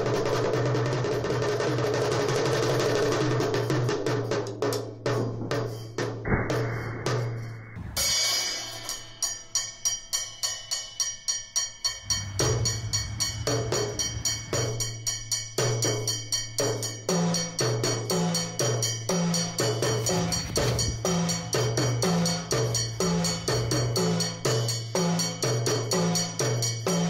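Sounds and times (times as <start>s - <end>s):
music with percussive beat and bass: 0.0s - 27.0s.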